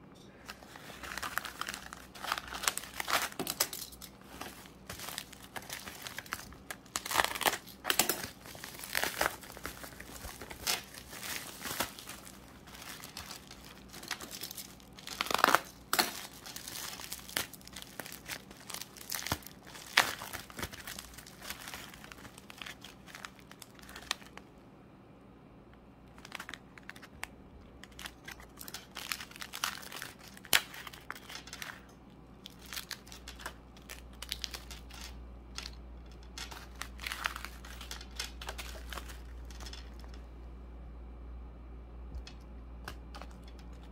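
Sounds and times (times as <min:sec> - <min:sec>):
plastic bags crinkling: 0:00.5 - 0:24.4, 0:26.1 - 0:40.2.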